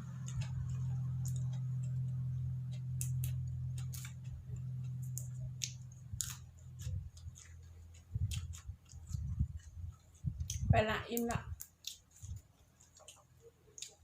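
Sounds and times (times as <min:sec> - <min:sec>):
crunchy vegetables chewing: 0:00.0 - 0:14.0
steady low hum: 0:00.0 - 0:14.0.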